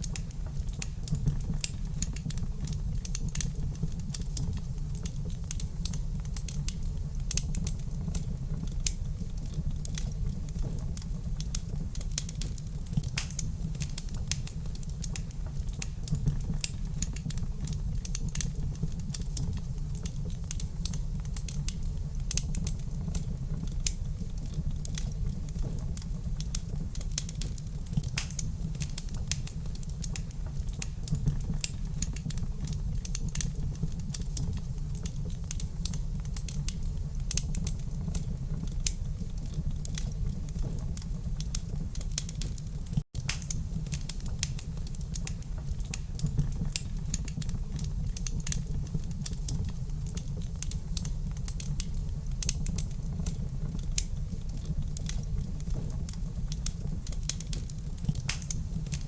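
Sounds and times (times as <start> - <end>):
low rumble of fire: 0.0 - 59.0
wood fire snapping and popping: 0.0 - 59.0.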